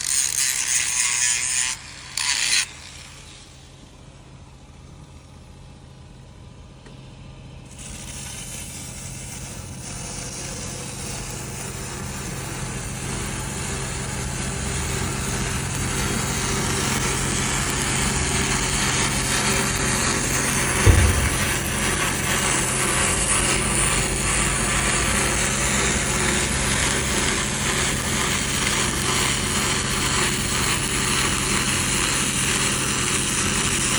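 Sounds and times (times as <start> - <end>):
welding arc hissing and crackling: 0.0 - 4.0, 7.6 - 33.9.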